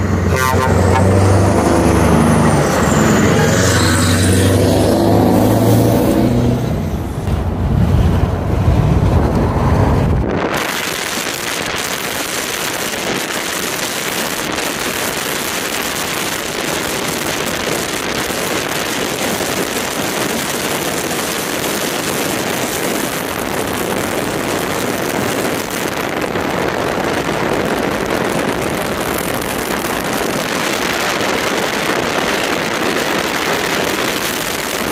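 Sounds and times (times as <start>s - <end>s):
car road noise: 0.0s - 34.9s
wind rushing: 0.0s - 34.9s.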